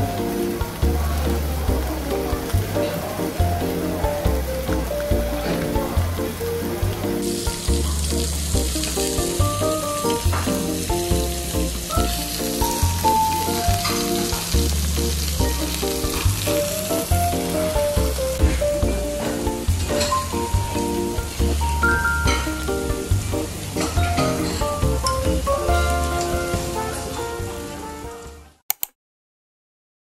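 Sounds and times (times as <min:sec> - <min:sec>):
meat and vegetables sizzling: 0:00.0 - 0:28.4
background music: 0:00.0 - 0:28.6.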